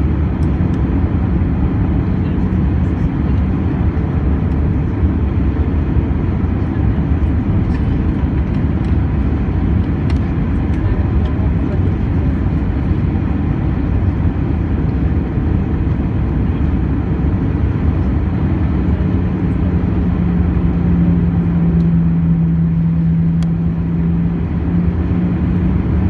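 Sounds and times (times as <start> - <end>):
airliner cabin engine roar: 0.0 - 26.0
low steady hum: 0.0 - 26.0.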